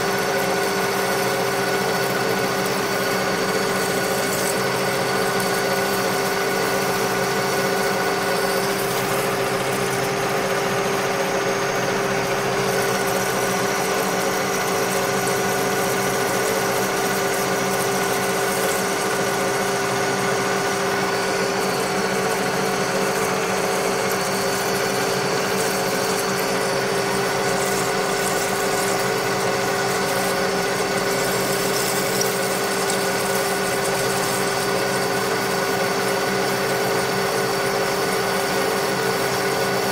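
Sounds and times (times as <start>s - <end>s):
metal lathe running: 0.0s - 39.9s.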